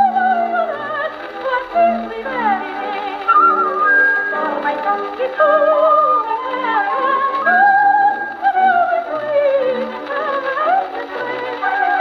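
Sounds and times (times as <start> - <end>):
orchestral accompaniment: 0.0 - 12.0
soprano singing with vibrato: 0.0 - 12.0.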